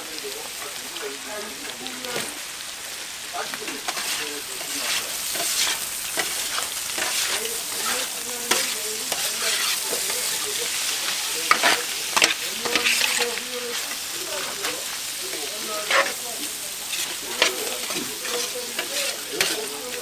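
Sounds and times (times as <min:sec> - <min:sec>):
meat sizzling on griddle: 0:00.0 - 0:20.0.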